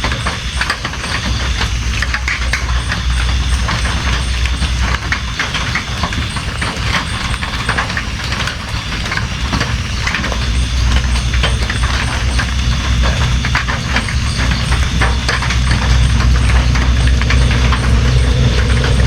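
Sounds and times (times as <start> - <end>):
constant low rumble: 0.0 - 19.0
rain drops pattering: 0.0 - 19.0.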